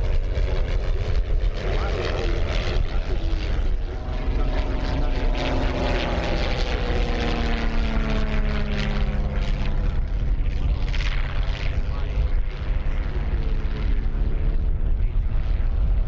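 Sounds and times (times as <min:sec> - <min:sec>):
propeller plane droning past: 0:00.0 - 0:16.0.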